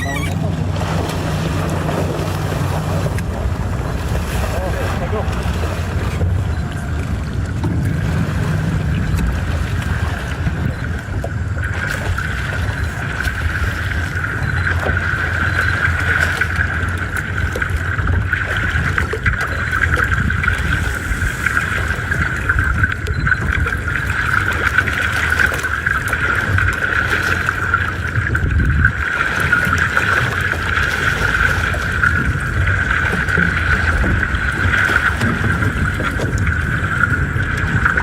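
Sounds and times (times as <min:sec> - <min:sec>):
boat motor running: 0:00.0 - 0:38.0.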